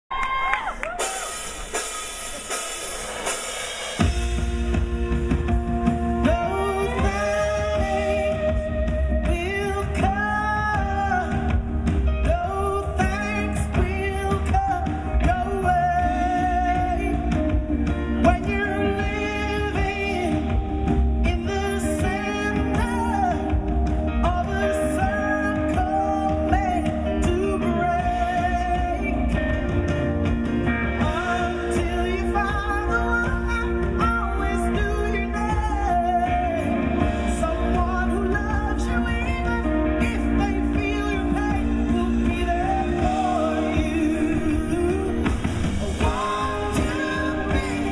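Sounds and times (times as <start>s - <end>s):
live band playing: 0.1s - 47.9s
woman singing: 5.5s - 29.7s, 31.0s - 47.9s.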